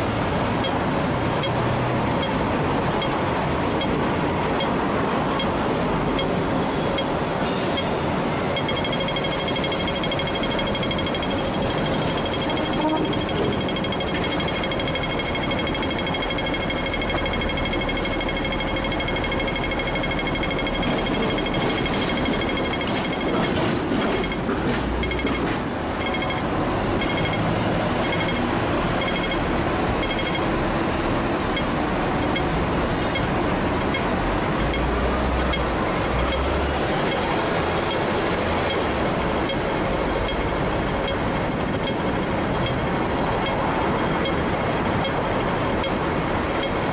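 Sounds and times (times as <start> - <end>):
pedestrian crossing signal ticking: 0.0 - 46.9
traffic: 0.0 - 46.9
tram noise: 0.0 - 46.9.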